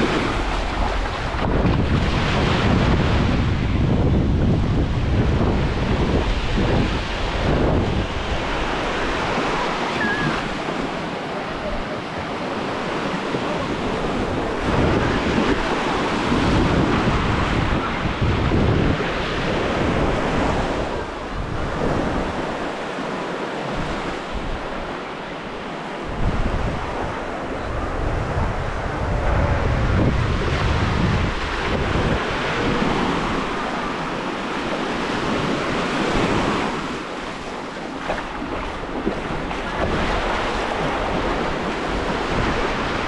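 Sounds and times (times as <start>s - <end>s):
small waves washing onto shore: 0.0s - 43.0s
wind buffeting microphone: 0.0s - 43.0s.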